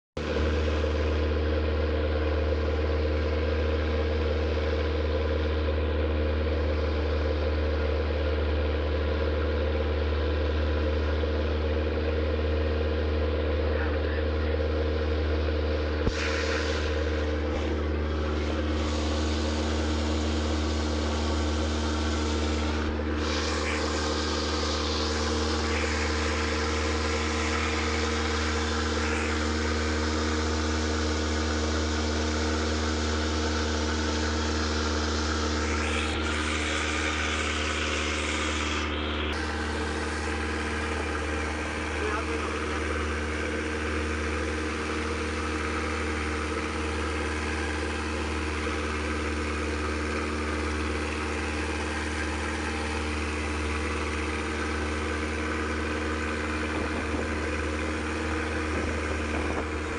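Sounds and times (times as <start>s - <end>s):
boat engine droning: 0.2s - 59.9s.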